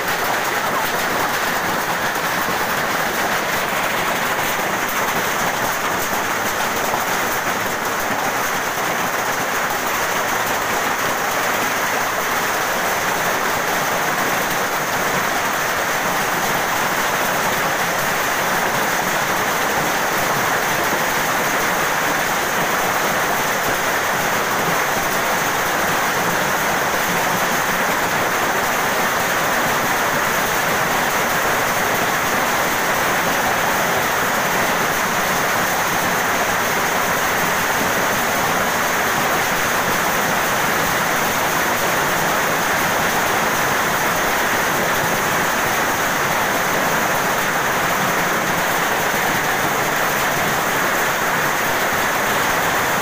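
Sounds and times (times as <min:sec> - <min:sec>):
hail and rain falling: 0:00.0 - 0:53.0.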